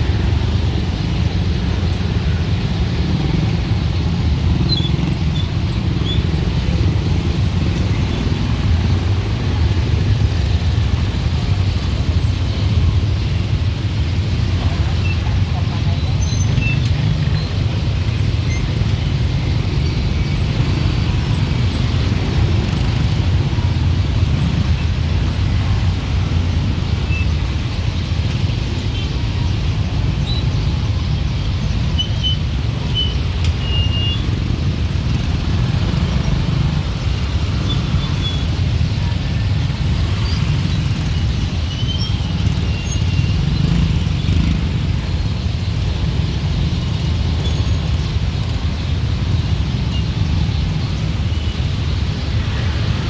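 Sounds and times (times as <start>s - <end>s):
city traffic rumble: 0.0s - 53.0s.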